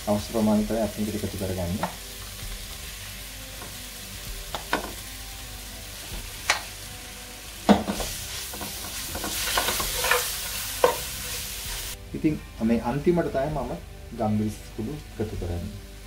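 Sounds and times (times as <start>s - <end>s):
faint steady sizzle: 0.0s - 16.0s.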